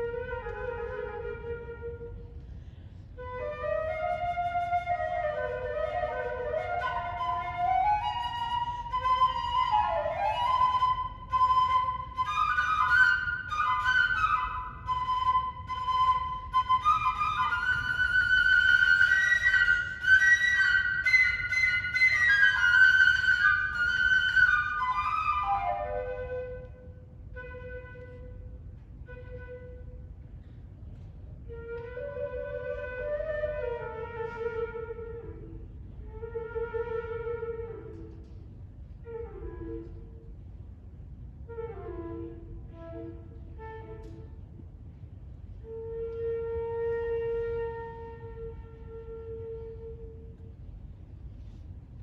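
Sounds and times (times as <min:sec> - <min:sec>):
solo flute melody: 0:00.0 - 0:30.5, 0:31.3 - 0:40.4, 0:41.4 - 0:51.6.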